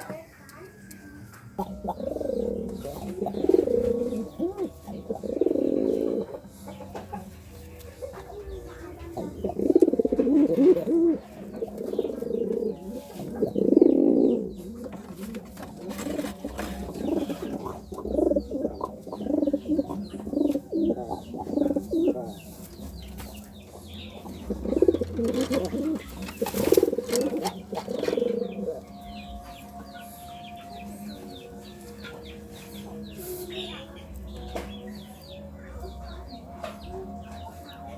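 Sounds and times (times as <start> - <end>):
pigeon cooing: 1.6 - 7.3, 7.9 - 33.8.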